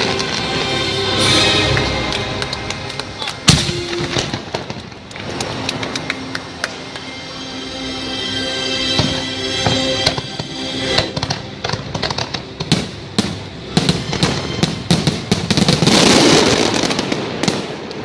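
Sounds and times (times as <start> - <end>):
fireworks banging and crackling: 0.0 - 7.2, 8.9 - 18.0
music: 0.0 - 17.6.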